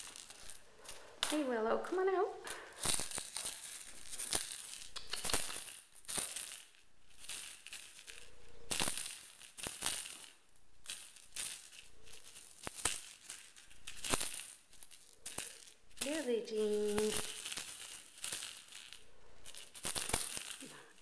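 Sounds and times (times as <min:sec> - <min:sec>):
cat toy rattling: 0:02.5 - 0:21.0.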